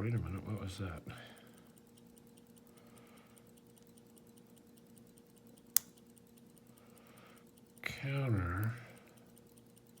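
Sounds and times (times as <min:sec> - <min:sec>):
faint steady hum: 0:00.0 - 0:10.0
fast faint ticking: 0:00.0 - 0:10.0.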